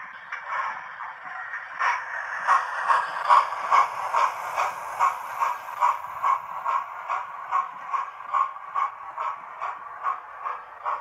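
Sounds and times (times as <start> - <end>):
model train steam chuffs: 0.0 - 11.0.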